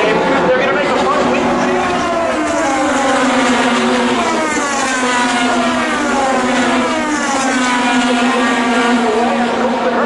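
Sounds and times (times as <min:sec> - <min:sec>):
race cars passing by: 0:00.0 - 0:10.0
steady engine hum: 0:00.0 - 0:10.0.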